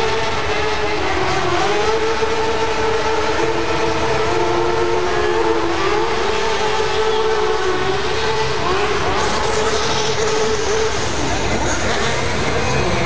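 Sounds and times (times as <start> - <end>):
motorcycle engines at high revs: 0.0 - 13.0.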